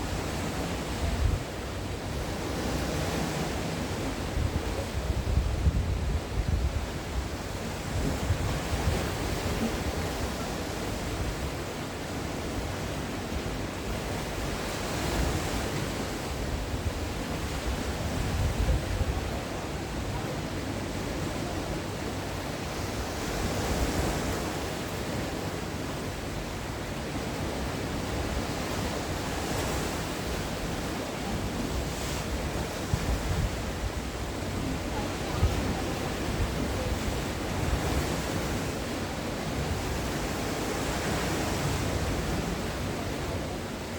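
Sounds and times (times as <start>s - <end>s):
sea waves breaking on shore: 0.0s - 43.9s.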